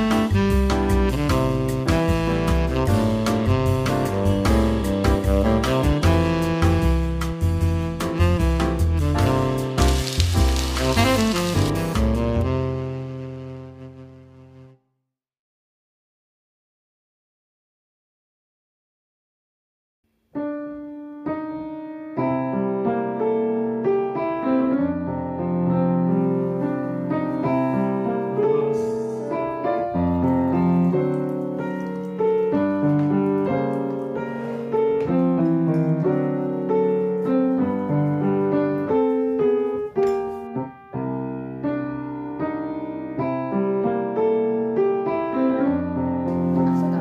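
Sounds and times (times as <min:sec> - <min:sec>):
solo piano music: 0:00.0 - 0:14.8, 0:20.3 - 0:47.0.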